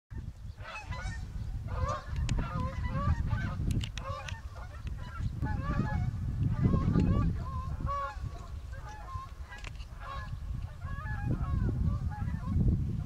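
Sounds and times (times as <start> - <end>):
wind rumble on microphone: 0.1 - 13.0
geese honking: 0.6 - 12.6.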